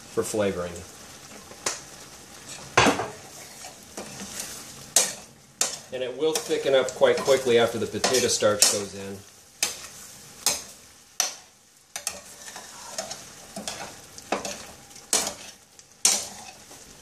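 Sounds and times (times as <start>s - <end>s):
sauce sizzling: 0.0s - 17.0s
metal spoon scraping skillet: 2.5s - 8.9s, 9.6s - 16.8s.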